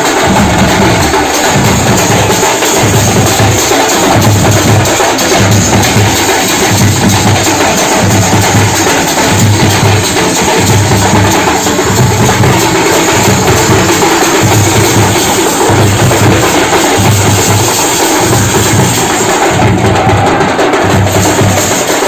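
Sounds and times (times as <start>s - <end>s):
drums played with sticks: 0.0s - 22.0s.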